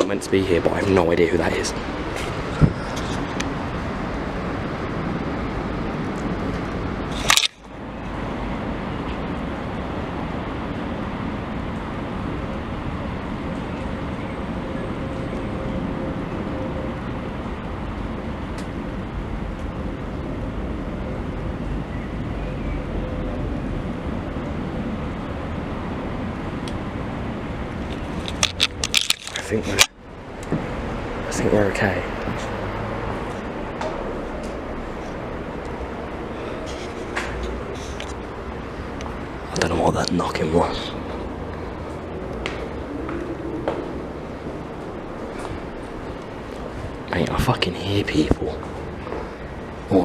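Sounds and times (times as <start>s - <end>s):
outdoor rumble and hiss: 0.0s - 50.0s.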